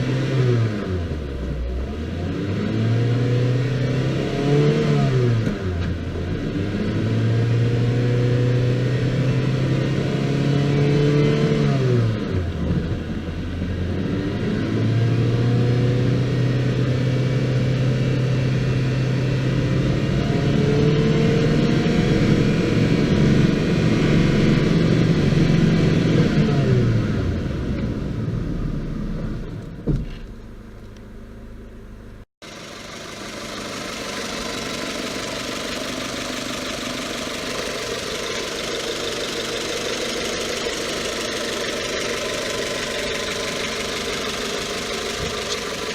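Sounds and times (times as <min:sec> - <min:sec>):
car engine revving: 0:00.0 - 0:29.6, 0:30.3 - 0:45.9.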